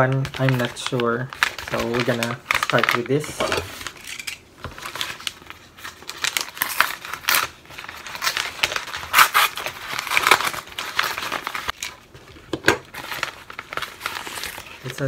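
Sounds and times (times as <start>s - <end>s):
knife slitting envelope: 0.0s - 4.2s, 4.8s - 12.0s, 12.9s - 15.0s
padded envelope crinkling: 0.0s - 15.0s.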